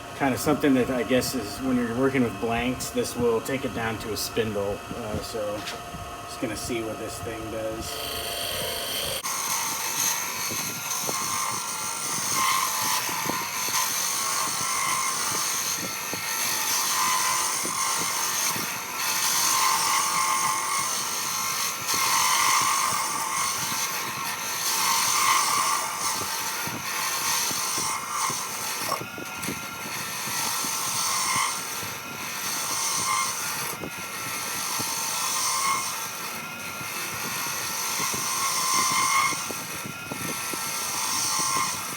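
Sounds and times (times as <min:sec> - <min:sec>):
lathe motor running: 0:00.0 - 0:41.9
chisel cutting hiss: 0:00.2 - 0:41.9.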